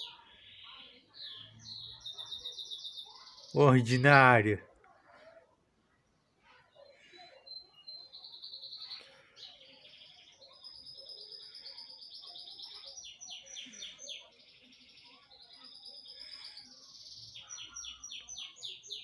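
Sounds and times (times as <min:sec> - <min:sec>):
small bird singing trills: 0:00.0 - 0:03.6, 0:06.0 - 0:19.0.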